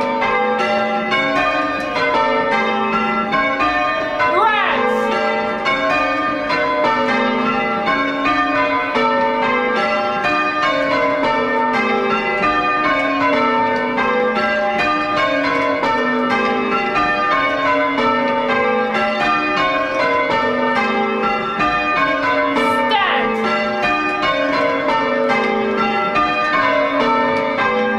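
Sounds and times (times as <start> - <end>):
church bells change ringing: 0.0 - 27.9.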